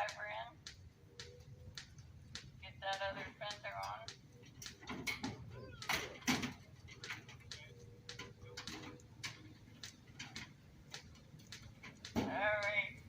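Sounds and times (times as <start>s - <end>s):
hand tools clicking on metal parts: 0.0s - 13.0s.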